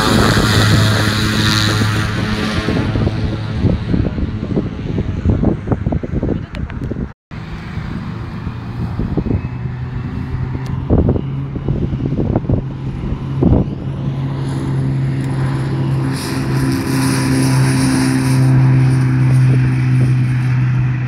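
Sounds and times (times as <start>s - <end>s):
propeller plane engine running: 0.0s - 21.0s.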